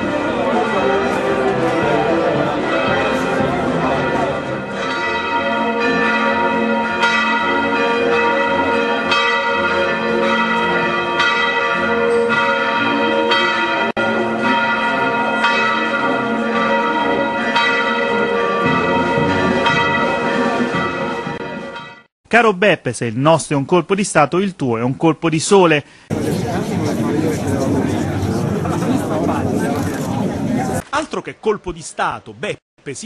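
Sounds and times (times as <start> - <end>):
church bells pealing: 0.0 - 22.1, 26.1 - 30.8.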